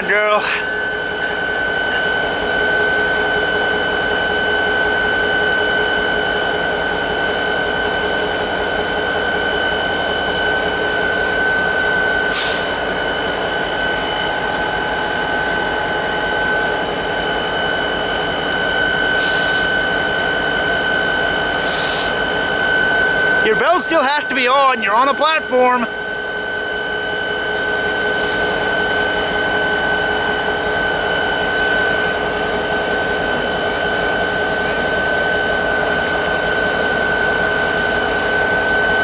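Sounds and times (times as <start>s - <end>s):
train wheels rumbling on rail: 0.0s - 23.5s, 26.0s - 39.0s
high-pitched ringing tone: 0.0s - 39.0s.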